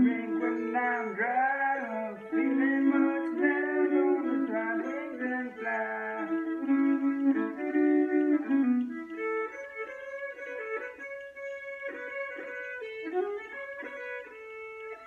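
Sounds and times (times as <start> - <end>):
solo fiddle playing: 0.0 - 15.0.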